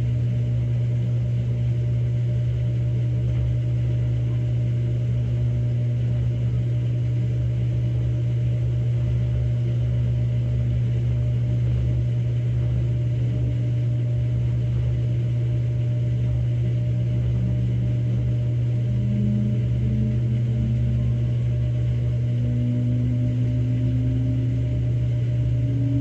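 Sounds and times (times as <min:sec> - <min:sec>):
washing machine drum spinning: 0:00.0 - 0:26.0.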